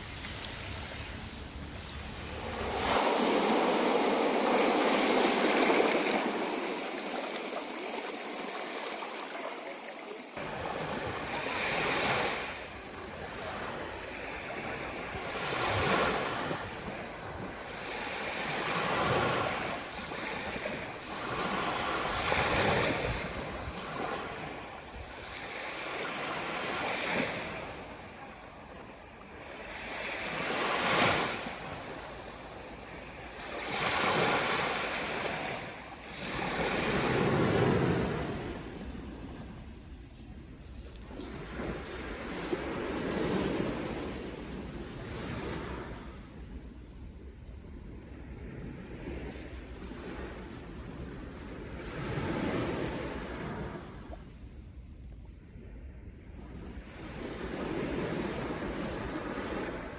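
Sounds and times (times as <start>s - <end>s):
waves breaking on shore: 0.0s - 40.0s, 40.6s - 46.7s, 56.7s - 59.9s.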